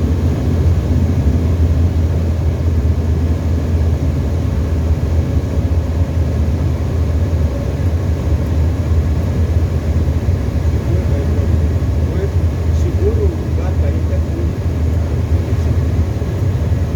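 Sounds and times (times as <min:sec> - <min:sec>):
propeller aircraft engine droning: 0:00.0 - 0:16.9.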